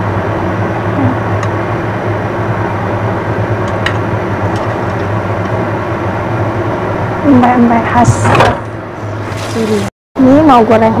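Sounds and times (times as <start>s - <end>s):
gas burner roaring: 0.0s - 9.9s
low constant hum: 0.0s - 11.0s.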